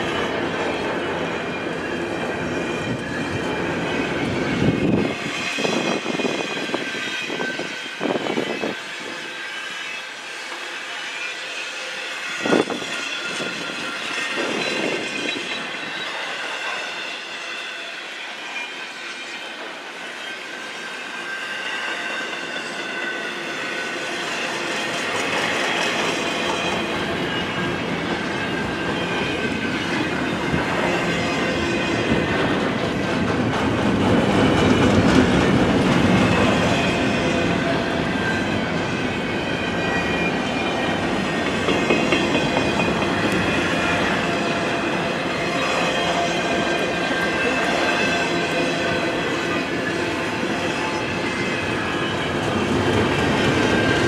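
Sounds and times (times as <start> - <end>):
low train rumble: 0.0 - 18.6, 19.4 - 54.0
train wheels clattering on rails: 0.0 - 54.0
high-pitched wheel squeal: 1.4 - 32.5, 34.3 - 54.0.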